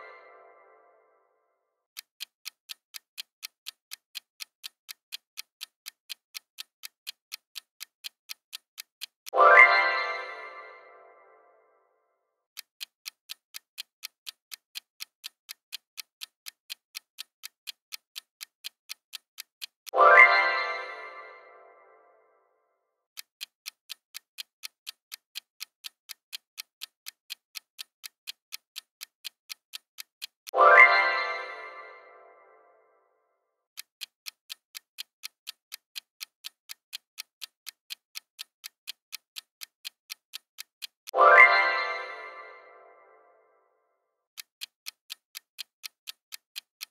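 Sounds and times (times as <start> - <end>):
timer ticking: 1.9 - 11.4, 12.5 - 22.3, 23.1 - 32.6, 33.7 - 43.6, 44.3 - 46.9.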